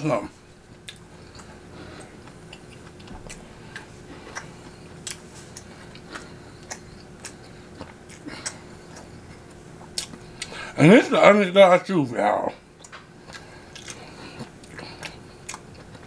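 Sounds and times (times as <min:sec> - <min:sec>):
electric fan humming: 0:00.0 - 0:16.0
wet chewing clicks: 0:00.8 - 0:10.5, 0:12.8 - 0:16.0.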